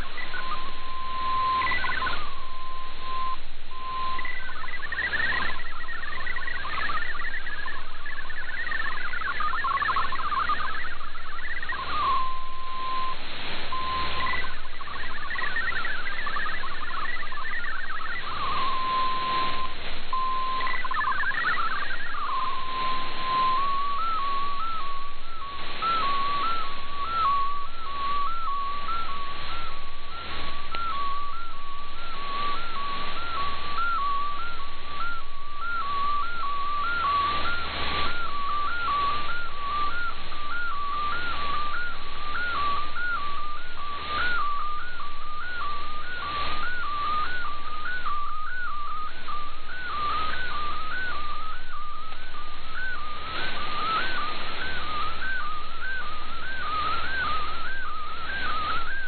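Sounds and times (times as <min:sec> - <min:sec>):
shortwave radio hiss: 0:00.0 - 0:59.0
whistling data tone hopping: 0:00.0 - 0:59.0.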